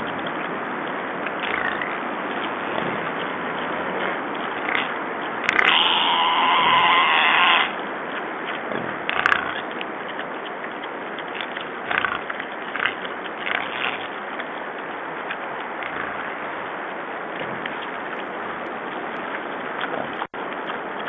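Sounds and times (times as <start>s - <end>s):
wild boars squealing: 0.0s - 20.3s.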